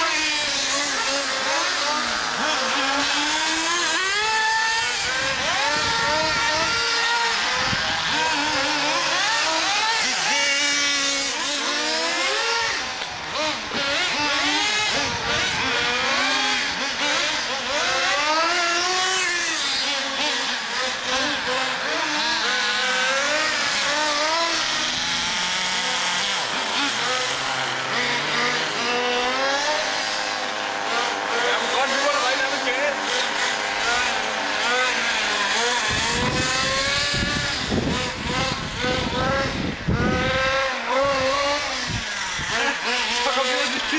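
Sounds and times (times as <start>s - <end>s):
small nitro engines revving: 0.0s - 43.9s.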